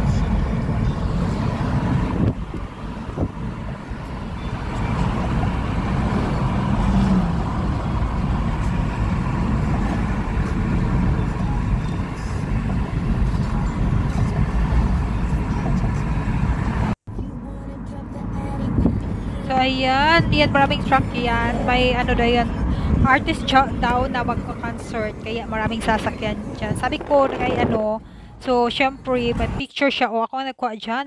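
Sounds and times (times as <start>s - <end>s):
wind buffeting through car window: 0.0s - 17.0s, 18.7s - 29.6s
tyre and road noise: 0.0s - 29.6s.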